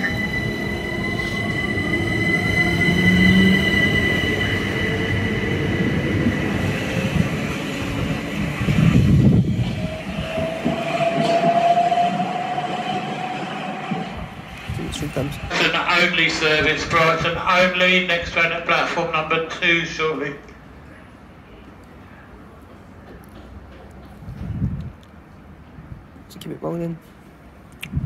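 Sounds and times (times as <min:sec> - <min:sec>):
train wheels rumbling on rails: 0:00.0 - 0:19.8, 0:22.5 - 0:26.2.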